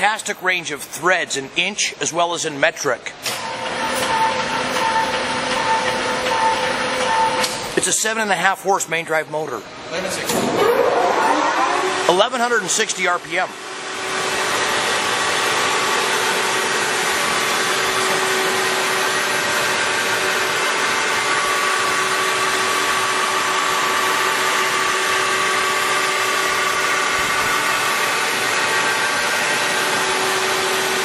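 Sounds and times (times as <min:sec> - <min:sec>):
lathe humming and whining: 0:03.3 - 0:08.1, 0:09.7 - 0:31.0.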